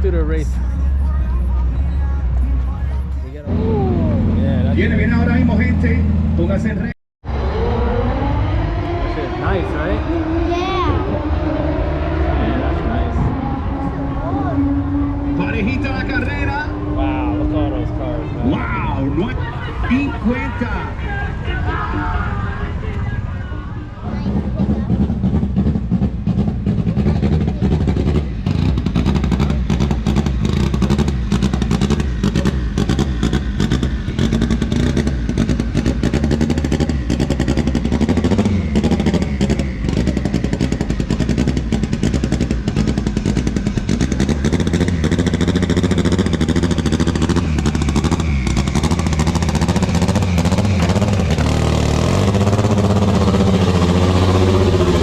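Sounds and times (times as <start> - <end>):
drag racing engines crackling: 0.0 - 55.0.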